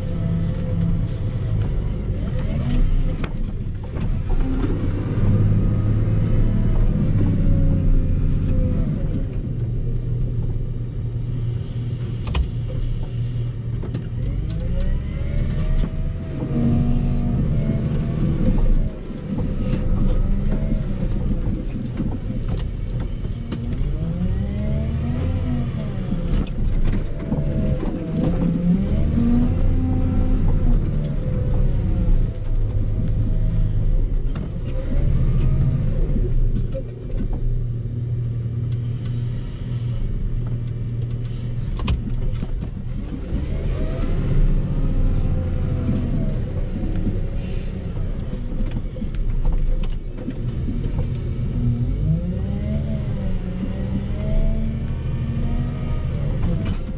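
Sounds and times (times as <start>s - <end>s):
diesel engine revving: 0.0s - 56.9s.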